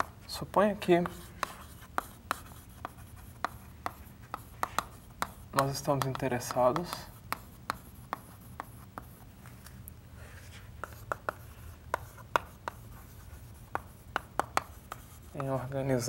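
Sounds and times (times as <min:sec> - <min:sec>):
chalk tapping and scratching on board: 0:00.0 - 0:09.3, 0:10.5 - 0:16.0.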